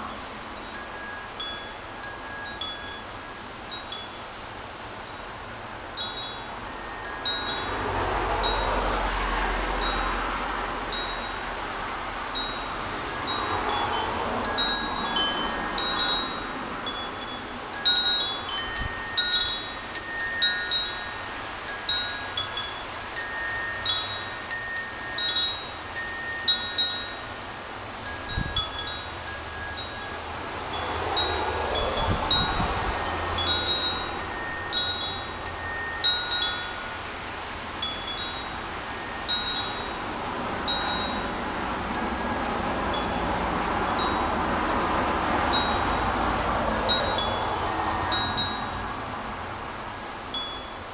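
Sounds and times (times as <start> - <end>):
wind chime ringing: 0.0 - 4.4, 6.0 - 8.8, 9.8 - 10.2, 10.9 - 11.4, 12.4 - 44.3, 45.4 - 49.0, 49.6 - 50.9
wind gusts on microphone: 0.0 - 50.9.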